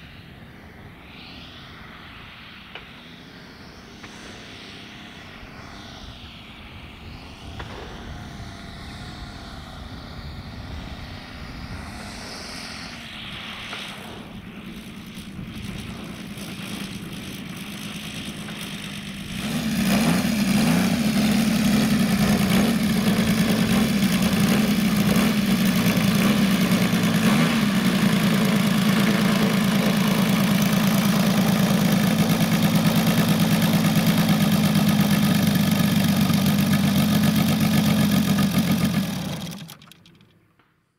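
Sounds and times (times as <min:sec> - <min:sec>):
model plane engine: 0:02.7 - 0:40.7.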